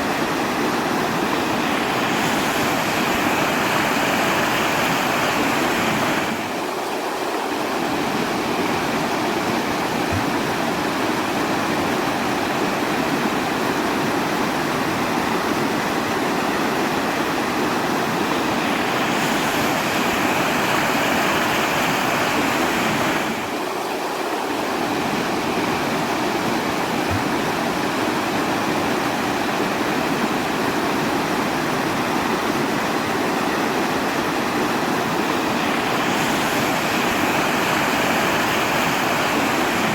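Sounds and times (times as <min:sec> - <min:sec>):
rushing water hiss: 0:00.0 - 0:39.9.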